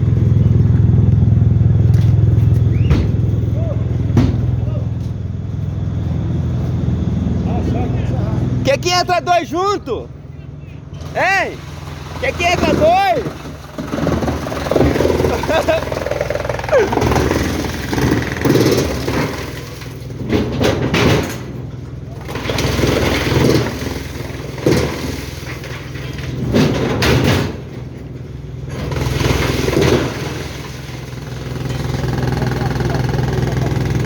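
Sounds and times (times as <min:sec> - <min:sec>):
heavy machinery engine running: 0:00.0 - 0:34.0.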